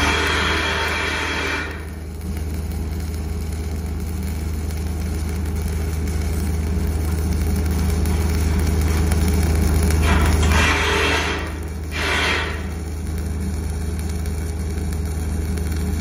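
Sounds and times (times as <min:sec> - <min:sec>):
low machine hum: 0:00.0 - 0:16.0
welding arc crackling: 0:00.0 - 0:16.0.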